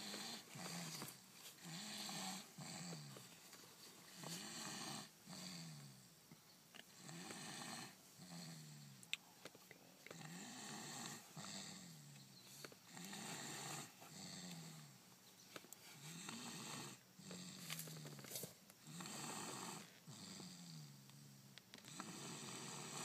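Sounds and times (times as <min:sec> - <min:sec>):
snoring with low rasp: 0:00.0 - 0:03.4, 0:04.1 - 0:06.1, 0:06.9 - 0:09.0, 0:10.1 - 0:15.0, 0:16.0 - 0:23.0.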